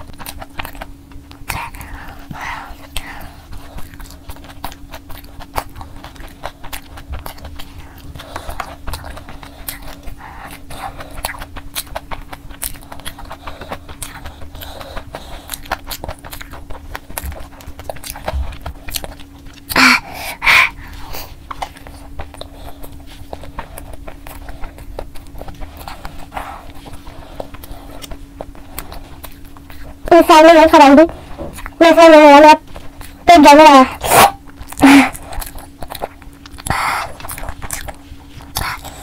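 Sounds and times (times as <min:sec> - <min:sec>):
lip-smacking: 0:00.0 - 0:30.1, 0:32.7 - 0:39.0
faint steady hum: 0:00.0 - 0:39.0
wet chewing: 0:00.0 - 0:39.0.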